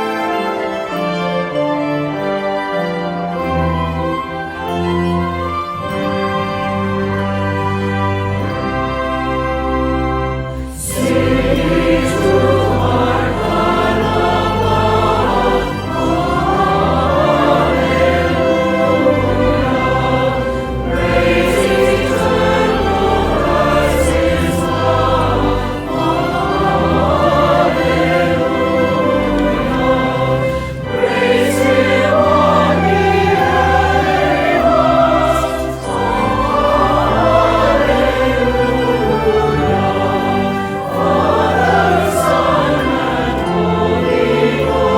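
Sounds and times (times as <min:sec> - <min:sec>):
voices singing a hymn: 0:00.0 - 0:44.9.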